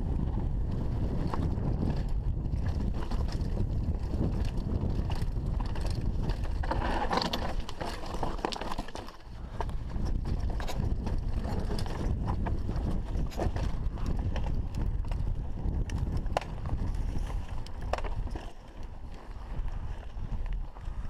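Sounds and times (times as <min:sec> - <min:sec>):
bike tyres rumbling on dirt: 0:00.0 - 0:21.0
bike chain and frame rattling: 0:00.1 - 0:21.0.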